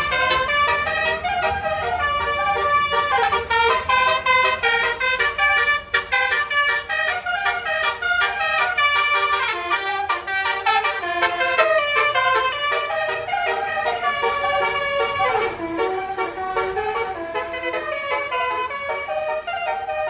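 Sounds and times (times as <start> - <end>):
multi-tone musical horn: 0.0 - 20.0.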